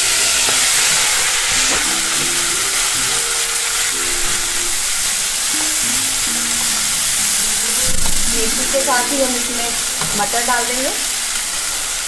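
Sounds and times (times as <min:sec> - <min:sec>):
soft melody: 0:00.0 - 0:11.8
leaves sizzling in hot oil: 0:00.0 - 0:12.0.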